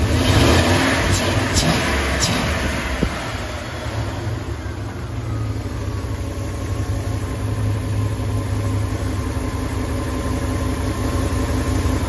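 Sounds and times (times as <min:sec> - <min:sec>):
engine idling roughly: 0:00.0 - 0:12.0.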